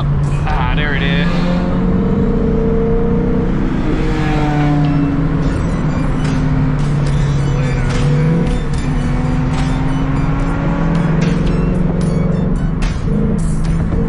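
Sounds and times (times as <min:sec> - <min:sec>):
car engine cruising: 0:00.0 - 0:14.0
road and wind noise: 0:00.0 - 0:14.0.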